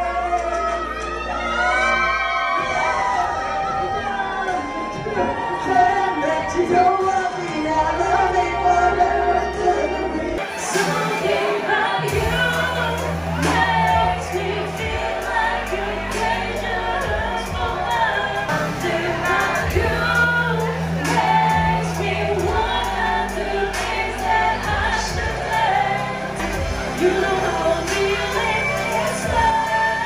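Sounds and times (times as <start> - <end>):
backing track with bass notes: 0.0 - 30.0
woman singing karaoke: 4.1 - 30.0.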